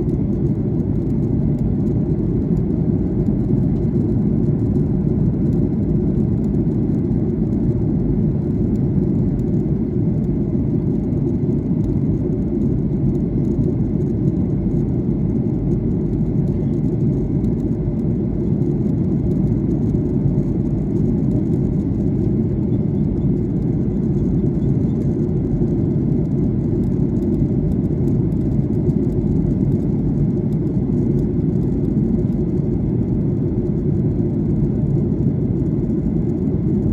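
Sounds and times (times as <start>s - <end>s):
airliner engines rumbling: 0.0s - 36.9s.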